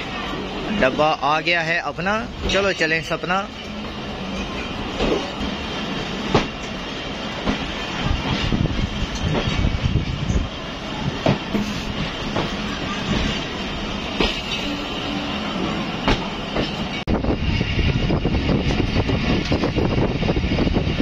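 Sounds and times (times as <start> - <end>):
train coaches rumbling on track: 0.0 - 21.0.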